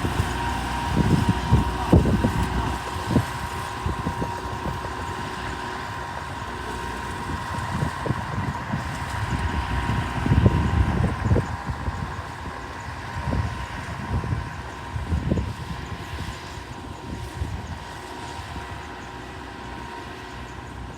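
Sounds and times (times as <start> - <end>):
bulldozer diesel engine running: 0.0 - 20.9
engine whine: 0.0 - 20.9.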